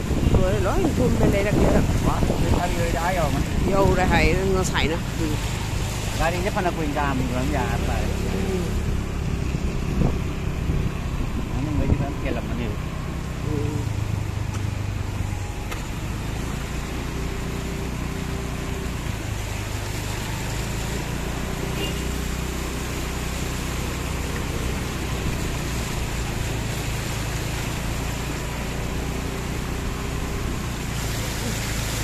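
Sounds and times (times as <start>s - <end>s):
vehicle engine hum: 0.0s - 32.0s
water splashing under tyres: 0.0s - 32.0s.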